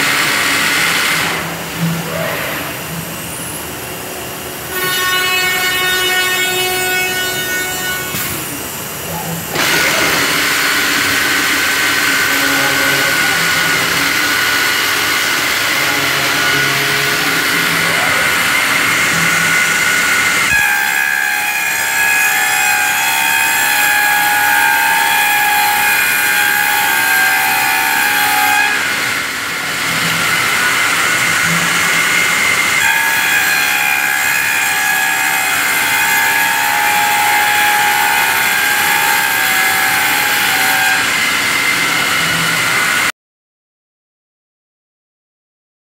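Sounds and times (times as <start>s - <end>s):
router spindle high-pitched whine: 0.0s - 43.1s.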